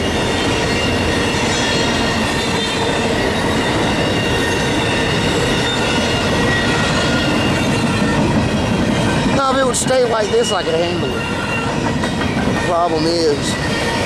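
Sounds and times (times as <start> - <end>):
train wheels rumbling on rail: 0.0 - 14.0
wheels squealing: 0.0 - 14.0.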